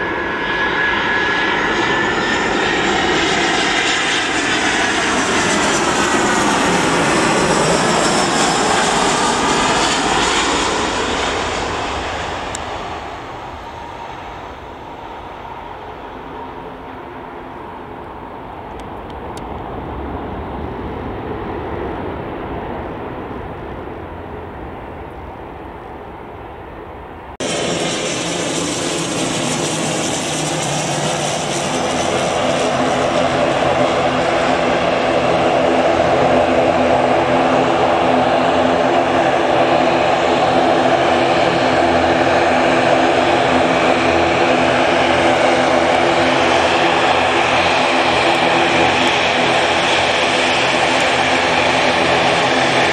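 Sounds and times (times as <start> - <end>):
jet engines rumbling: 0.0 - 52.9
turboprop propeller drone: 0.0 - 52.9.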